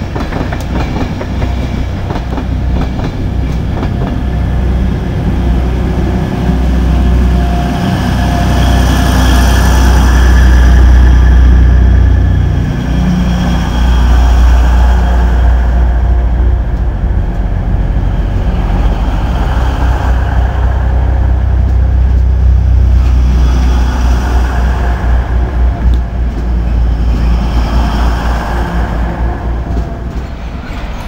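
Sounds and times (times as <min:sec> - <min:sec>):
diesel train engine rumbling: 0:00.0 - 0:31.0.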